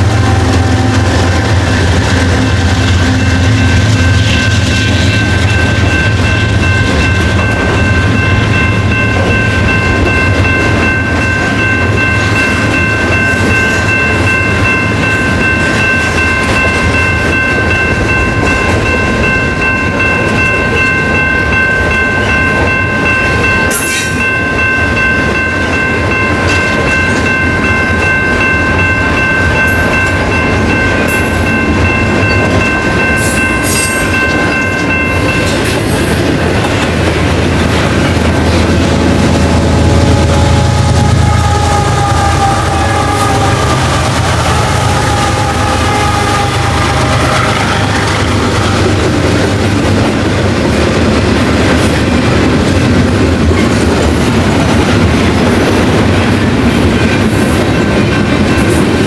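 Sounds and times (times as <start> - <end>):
freight train rumbling past: 0.0 - 59.0
train cars clanking: 0.0 - 59.0.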